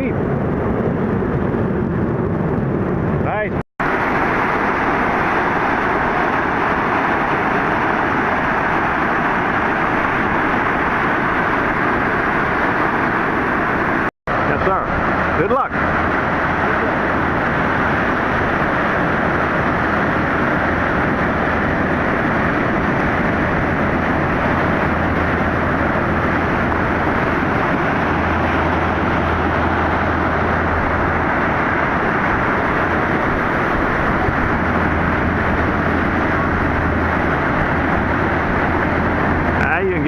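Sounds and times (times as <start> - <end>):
heavy surf breaking: 0.0 - 40.0.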